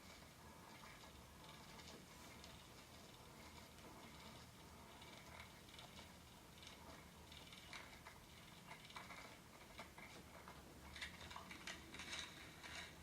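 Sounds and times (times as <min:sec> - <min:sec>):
faint irregular ticks and clicks: 0:00.0 - 0:13.0.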